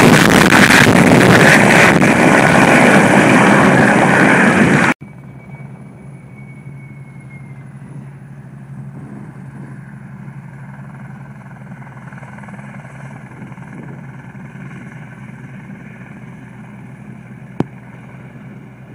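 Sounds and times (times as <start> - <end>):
distant helicopter drone: 0.0 - 18.9
high turbine whine: 0.0 - 18.9.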